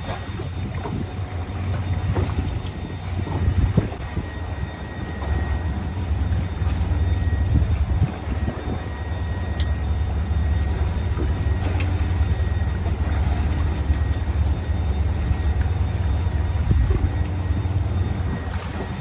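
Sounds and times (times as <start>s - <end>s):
wind buffeting microphone: 0.0s - 9.3s, 10.0s - 19.0s
sea washing around hull: 0.0s - 19.0s.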